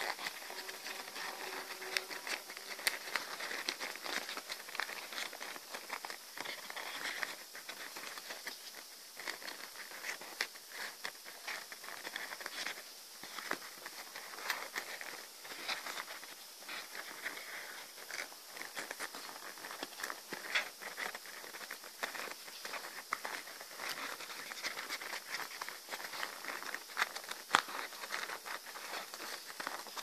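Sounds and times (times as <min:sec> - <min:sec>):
paper rustling and crinkling: 0:00.0 - 0:30.0
small paper clicks and taps: 0:00.0 - 0:30.0.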